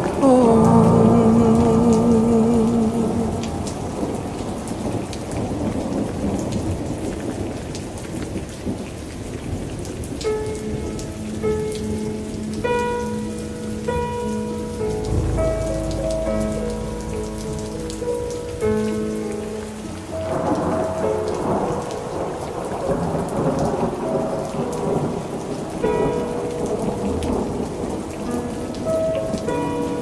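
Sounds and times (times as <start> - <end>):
rolling thunder: 0.0 - 10.1, 14.8 - 29.4
steady rain: 0.0 - 30.0.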